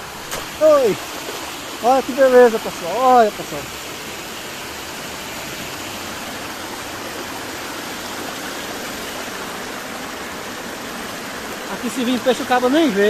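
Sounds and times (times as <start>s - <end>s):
floodwater rushing through culvert: 0.0s - 13.0s.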